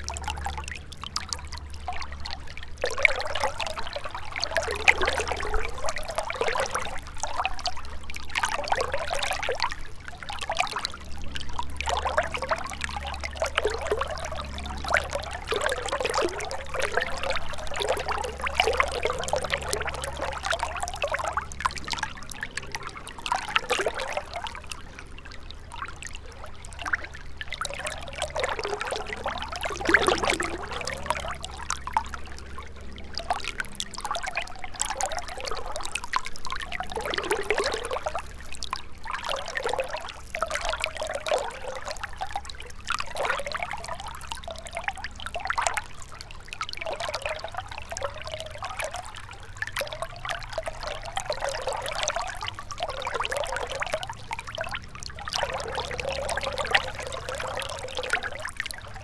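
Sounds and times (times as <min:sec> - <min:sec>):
river water trickling over stones: 0:00.0 - 0:59.0.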